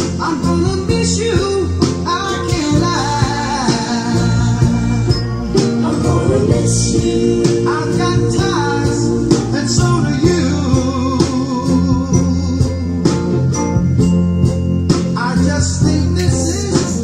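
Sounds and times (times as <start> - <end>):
song with singing and guitar: 0.0 - 17.0.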